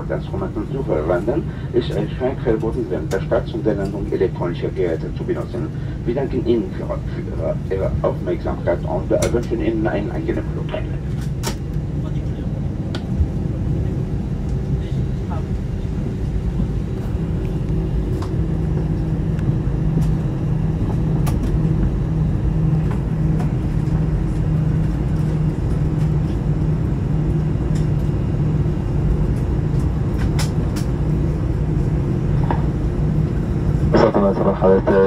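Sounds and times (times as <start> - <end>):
jet engines idling: 0.0 - 35.0.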